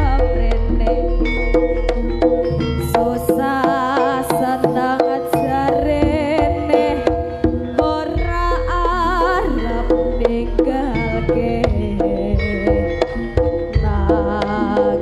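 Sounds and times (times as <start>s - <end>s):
woman singing with vibrato: 0.0s - 2.2s, 2.8s - 15.0s
hand-drum strokes: 0.0s - 15.0s
held instrumental tone: 0.0s - 15.0s.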